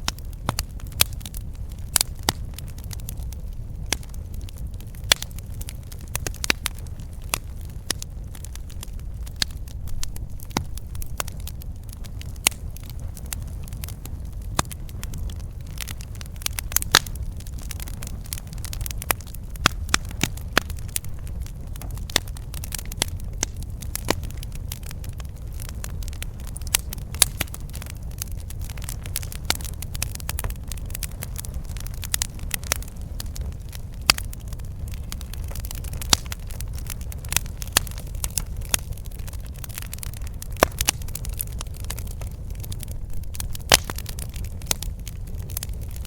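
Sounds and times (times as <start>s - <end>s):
low rumble of flames: 0.0s - 46.0s
wood crackling and popping: 0.0s - 46.0s.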